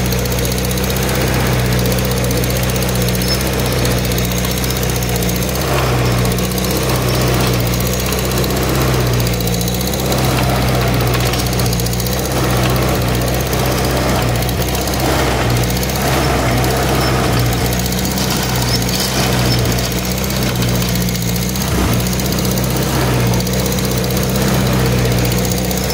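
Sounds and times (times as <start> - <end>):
tractor engine under load: 0.0 - 25.9.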